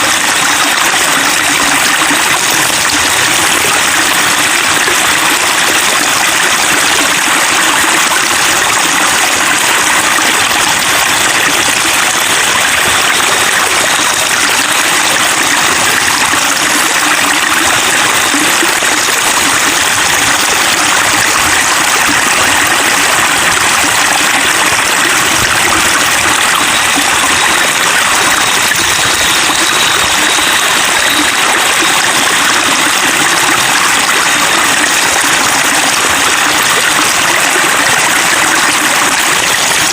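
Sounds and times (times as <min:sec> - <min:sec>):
water babbling and splashing: 0:00.0 - 0:39.9.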